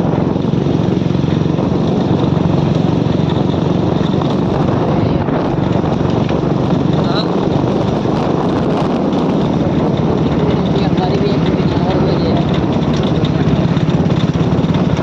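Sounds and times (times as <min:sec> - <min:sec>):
motorcycle engine running: 0:00.0 - 0:15.0
road noise rushing: 0:00.0 - 0:15.0.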